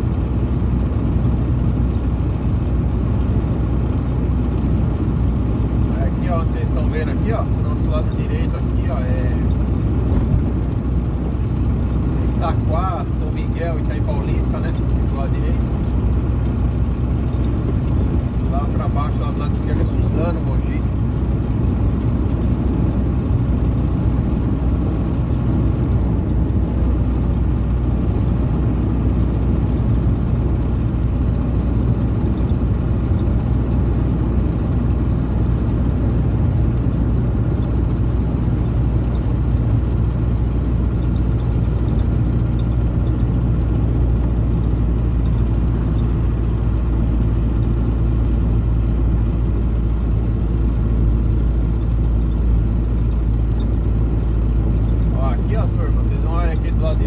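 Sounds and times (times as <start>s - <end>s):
road noise: 0.0s - 57.0s
truck diesel engine droning: 0.0s - 57.0s.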